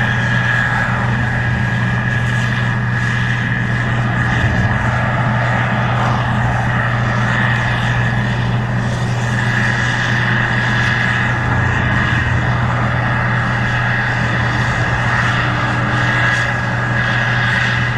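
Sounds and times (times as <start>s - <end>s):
diesel engine drone: 0.0s - 17.9s
steady high whine: 0.0s - 17.9s.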